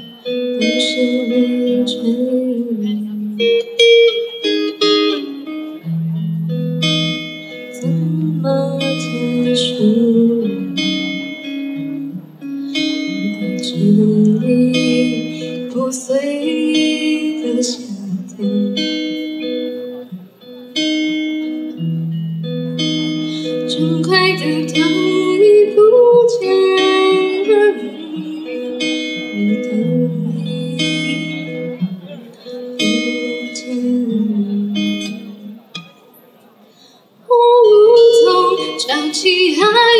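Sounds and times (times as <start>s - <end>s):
woman singing into a microphone: 0.0s - 3.8s, 6.8s - 19.6s, 22.9s - 35.7s, 37.2s - 39.9s
fingerpicked acoustic guitar: 0.0s - 39.9s.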